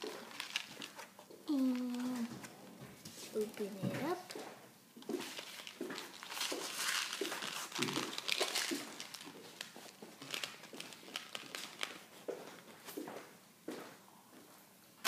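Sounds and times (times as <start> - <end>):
packaging crackling and rustling: 0.0 - 2.5, 3.1 - 13.0.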